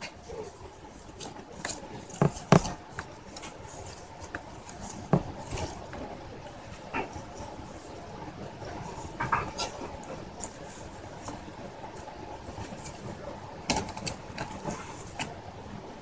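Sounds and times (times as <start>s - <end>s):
rustling leaves: 0.0s - 16.0s.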